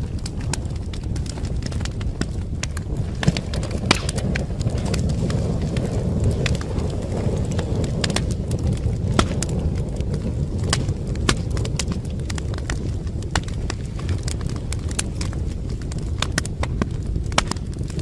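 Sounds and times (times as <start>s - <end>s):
fire roaring: 0.0s - 18.0s
logs crackling and popping: 0.0s - 18.0s.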